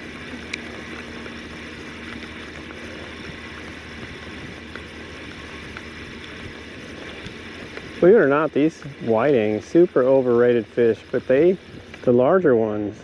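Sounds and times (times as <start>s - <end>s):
fishing reel gears whirring: 0.0s - 13.0s
wind: 0.0s - 13.0s.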